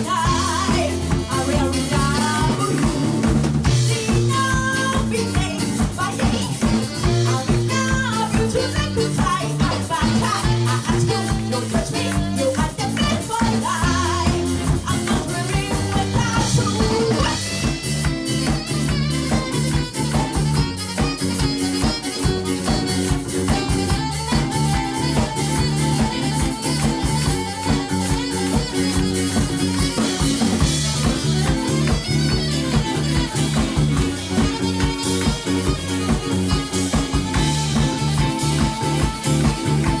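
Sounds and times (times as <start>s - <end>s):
live band playing instrumental: 0.0s - 40.0s.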